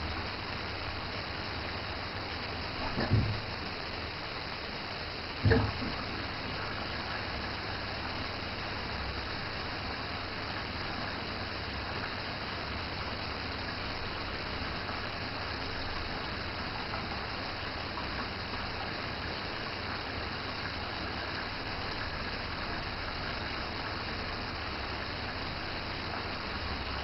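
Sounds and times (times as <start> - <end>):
rush of water: 0.0 - 27.0
washing machine low hum: 0.0 - 27.0.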